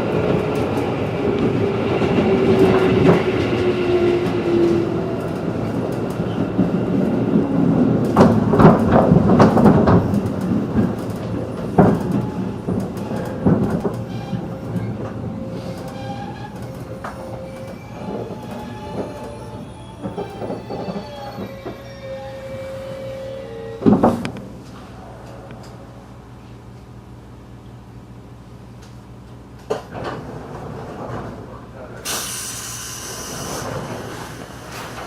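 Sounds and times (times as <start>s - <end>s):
train running rumble: 0.0s - 35.0s.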